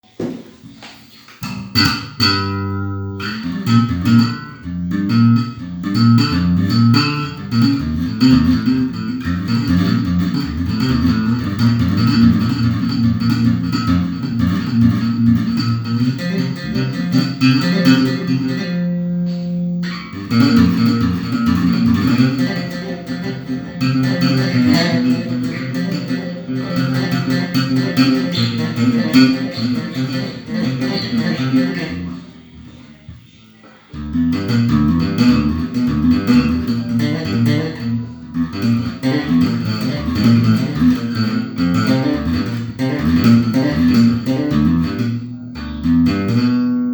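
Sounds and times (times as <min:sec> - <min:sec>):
solo bass guitar: 0:01.4 - 0:33.3, 0:33.9 - 0:46.9.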